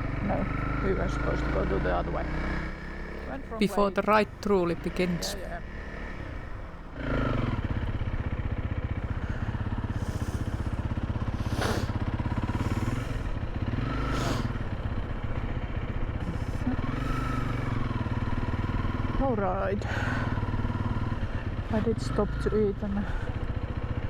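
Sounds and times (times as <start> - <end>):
motorcycle engine at low revs: 0.0 - 3.6, 4.2 - 24.0.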